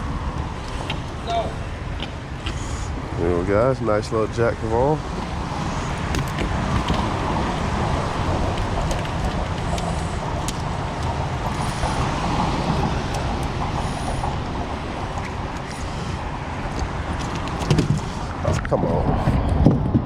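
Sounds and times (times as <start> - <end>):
road traffic rumble and hiss: 0.0 - 20.0.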